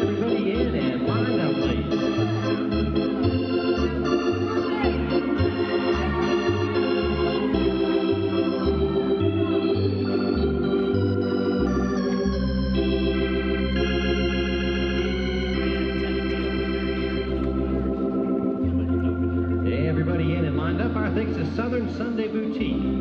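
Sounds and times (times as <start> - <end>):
organ music: 0.0 - 23.0.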